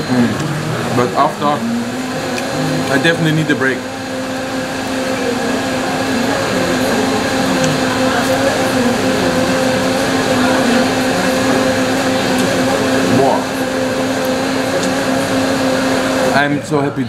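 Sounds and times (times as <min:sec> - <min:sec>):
restaurant equipment hum: 0:00.0 - 0:17.0.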